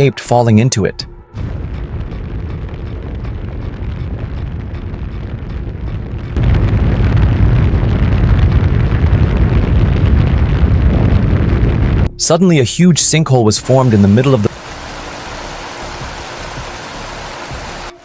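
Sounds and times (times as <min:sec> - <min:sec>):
loud low rumbling: 0:00.0 - 0:18.0.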